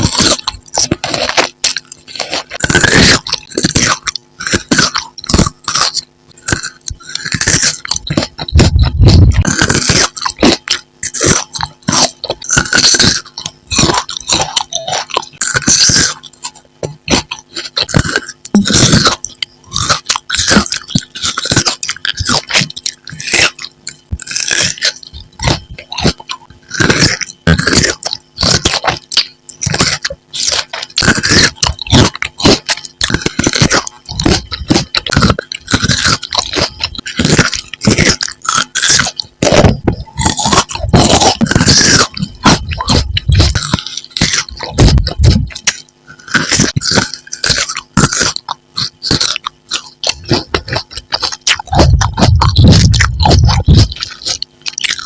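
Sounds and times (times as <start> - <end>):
chewing and crunching: 0.0 - 55.0
mouth smacks: 0.0 - 55.0.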